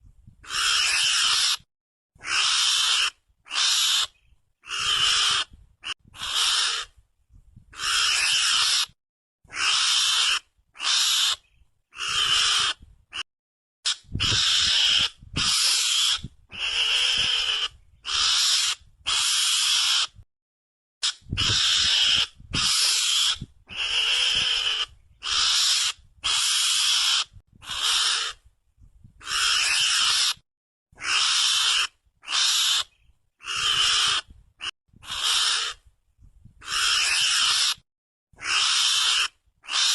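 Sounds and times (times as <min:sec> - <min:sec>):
harsh hissy mongoose screeches: 0:00.4 - 0:06.9, 0:07.8 - 0:11.4, 0:12.0 - 0:13.2, 0:13.9 - 0:20.2, 0:21.0 - 0:28.4, 0:29.2 - 0:30.4, 0:31.0 - 0:35.8, 0:36.6 - 0:37.8, 0:38.4 - 0:39.9.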